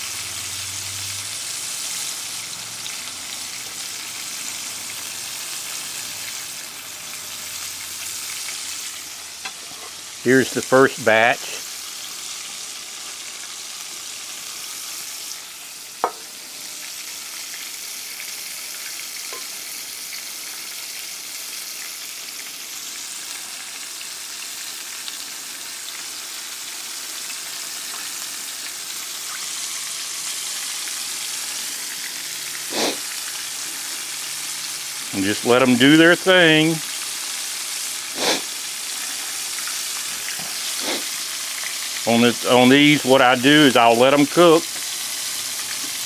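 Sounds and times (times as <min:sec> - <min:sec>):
meat deep-frying in oil: 0:00.0 - 0:46.0.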